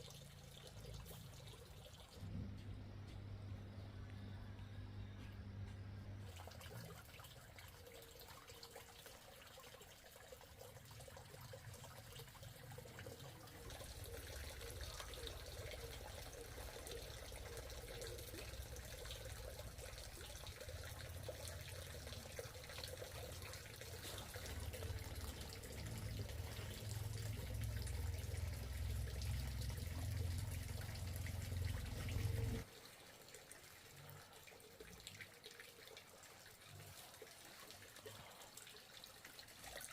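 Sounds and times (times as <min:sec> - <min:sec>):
water running and splashing: 0:00.0 - 0:02.3, 0:06.2 - 0:39.9.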